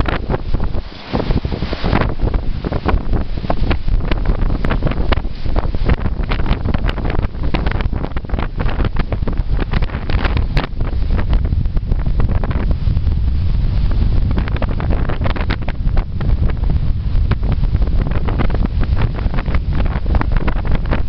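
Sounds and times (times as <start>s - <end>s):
sea waves washing on beach: 0.0s - 21.0s
wind buffeting microphone: 0.0s - 21.0s.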